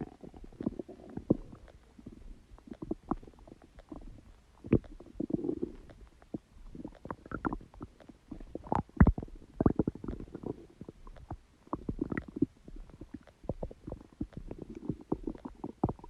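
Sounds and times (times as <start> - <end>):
stomach gurgling: 0.0 - 16.0.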